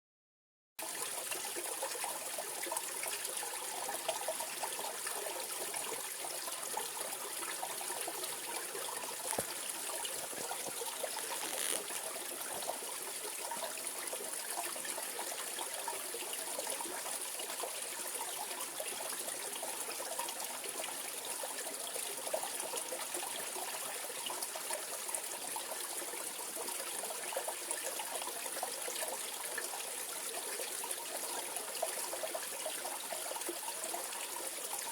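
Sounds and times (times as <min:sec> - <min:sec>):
stream flowing over rocks: 0:00.9 - 0:34.9.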